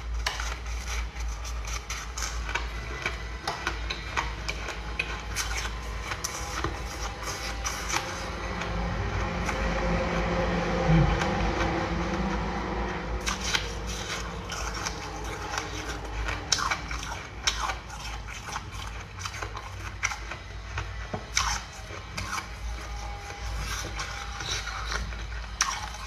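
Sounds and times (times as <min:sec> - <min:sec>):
ice being chewed: 0:00.0 - 0:26.0.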